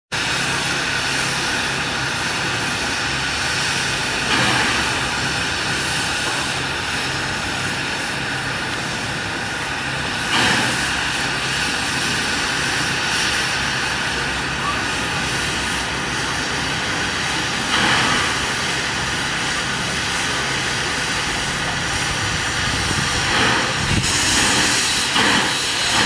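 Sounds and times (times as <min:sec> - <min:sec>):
steam hissing: 0:00.2 - 0:26.0.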